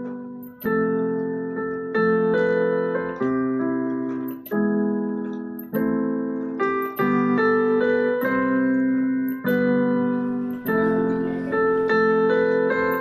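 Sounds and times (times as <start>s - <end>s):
keyboard playing sustained chords: 0.0s - 13.0s.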